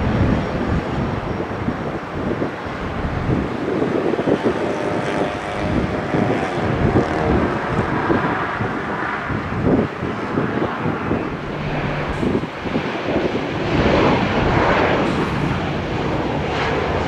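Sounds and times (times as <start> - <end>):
airplane engine rumble: 0.0 - 17.0
faint engine whine: 0.0 - 17.0
wind gusting on microphone: 0.0 - 17.0.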